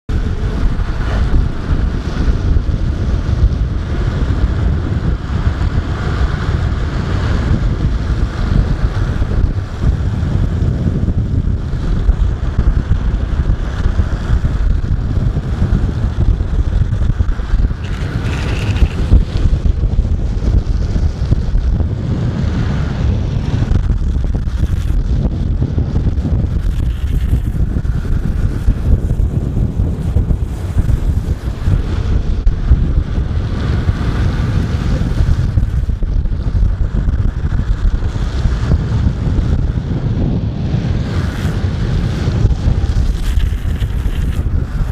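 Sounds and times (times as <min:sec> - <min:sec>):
wheels on road: 0:00.1 - 0:44.9
wind buffeting microphone: 0:00.1 - 0:44.9.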